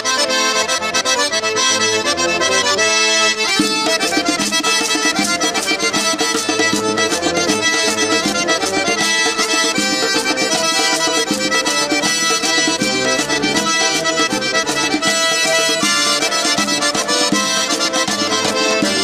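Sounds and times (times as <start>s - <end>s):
instrumental news theme music: 0.0s - 19.0s.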